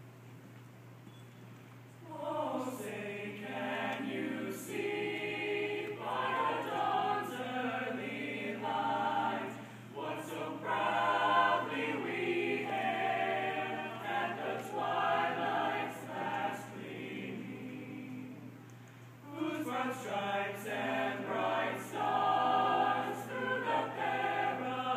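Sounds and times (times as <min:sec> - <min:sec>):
choir singing a cappella: 0:02.0 - 0:24.9.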